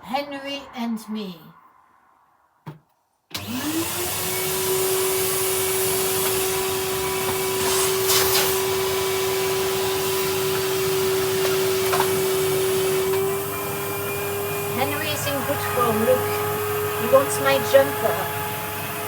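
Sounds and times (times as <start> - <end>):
vacuum cleaner motor whine: 3.4 - 19.0.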